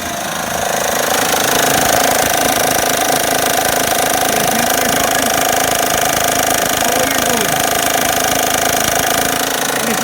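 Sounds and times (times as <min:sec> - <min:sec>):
engine running with knocking: 0:00.0 - 0:10.0.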